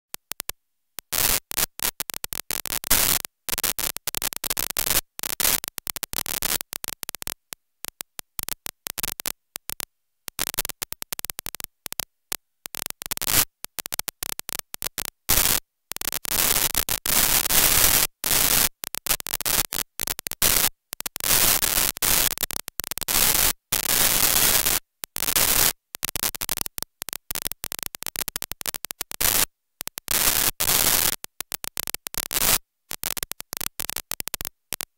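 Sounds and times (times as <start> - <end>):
glitching static hiss: 0.1 - 34.9.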